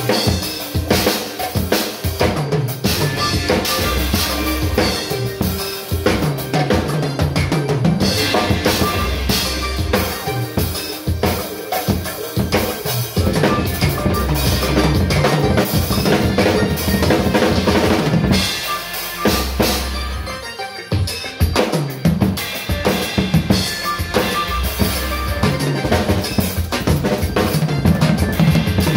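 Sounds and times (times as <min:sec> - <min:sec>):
backing track bass line: 0:00.0 - 0:28.9
drum kit played hard: 0:00.0 - 0:28.9.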